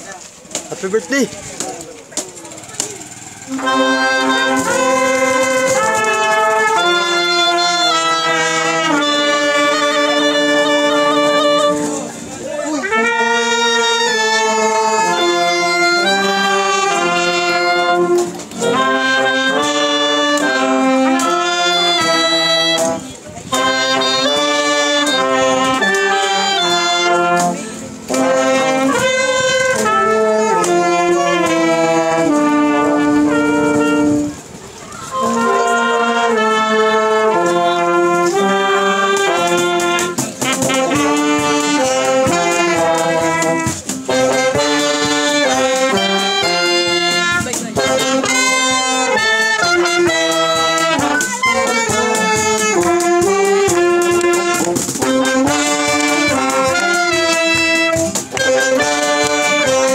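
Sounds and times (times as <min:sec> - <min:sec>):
brass band playing a tune: 0:00.0 - 0:59.9.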